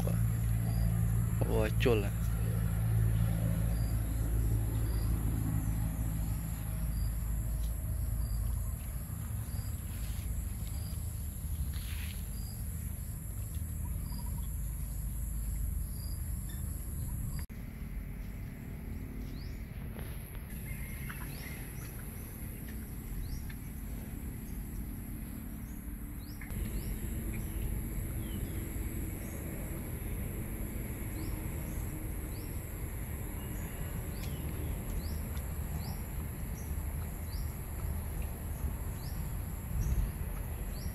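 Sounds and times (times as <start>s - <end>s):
insect drone: 0.0s - 17.5s, 19.4s - 40.9s
low rumble: 0.0s - 40.9s.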